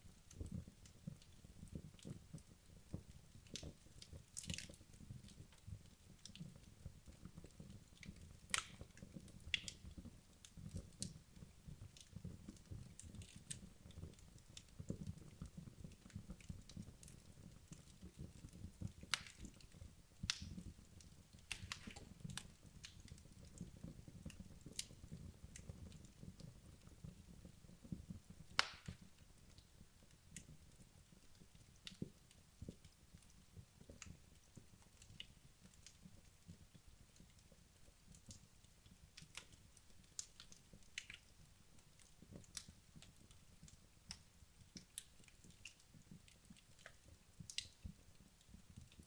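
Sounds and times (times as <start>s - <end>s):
wood logs crackling in fireplace: 0.0s - 49.0s.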